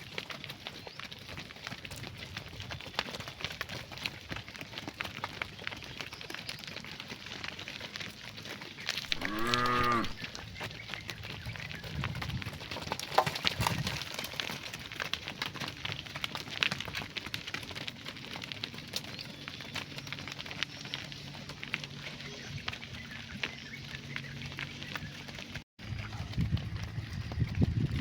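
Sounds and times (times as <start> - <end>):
hooves on dry ground: 0.0 - 28.0.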